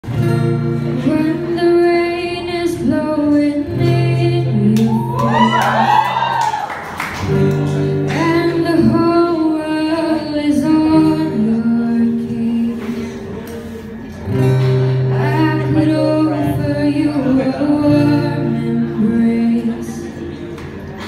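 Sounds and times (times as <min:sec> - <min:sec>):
acoustic guitar chords: 0:00.0 - 0:06.3, 0:07.1 - 0:21.0
woman singing a slow ballad: 0:00.1 - 0:06.6, 0:07.9 - 0:13.4, 0:15.0 - 0:20.2.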